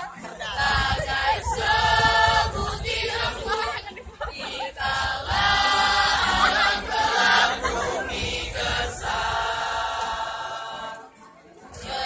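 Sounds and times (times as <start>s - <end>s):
choir singing in harmony: 0.0s - 12.0s.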